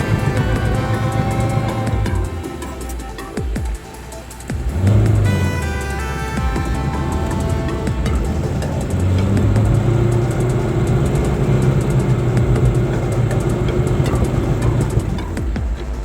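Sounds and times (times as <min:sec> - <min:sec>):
car engine droning under load: 0:00.0 - 0:16.0.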